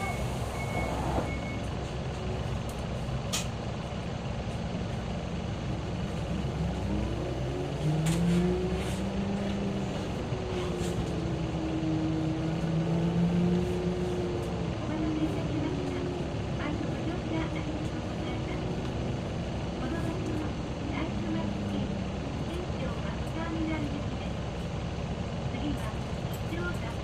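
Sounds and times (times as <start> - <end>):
bus engine running: 0.0 - 27.0.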